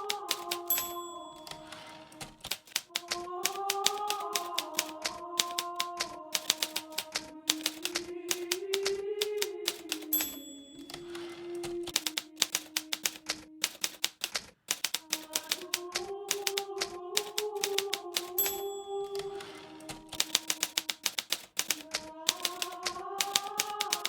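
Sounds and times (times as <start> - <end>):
typewriter margin bell: 0.0 - 16.6, 17.2 - 24.0
typewriter carriage return: 0.0 - 24.0
typewriter keystrokes: 0.0 - 24.0.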